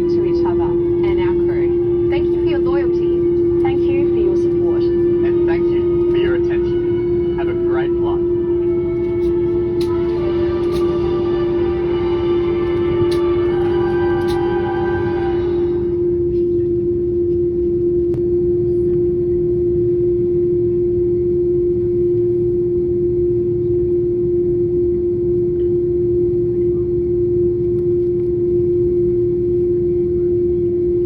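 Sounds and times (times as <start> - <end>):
airplane cabin drone: 0.0 - 31.0.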